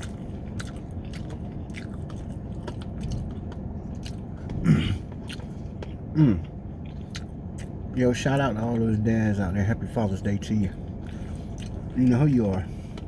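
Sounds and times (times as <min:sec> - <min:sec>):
chewing food: 0:00.0 - 0:08.4, 0:10.2 - 0:13.0.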